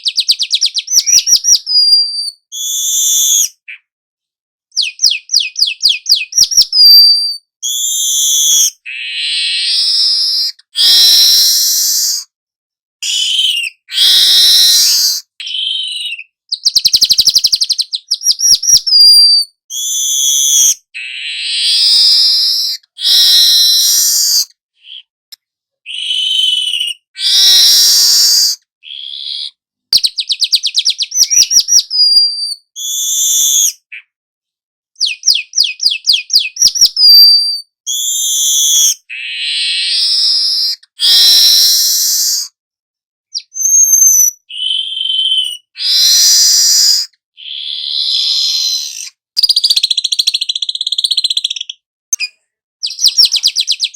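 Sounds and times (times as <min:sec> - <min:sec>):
bird singing chirps and whistles: 0:00.0 - 0:03.9, 0:04.7 - 0:12.3, 0:13.0 - 0:25.1, 0:25.8 - 0:34.2, 0:35.0 - 0:42.6, 0:43.3 - 0:53.9.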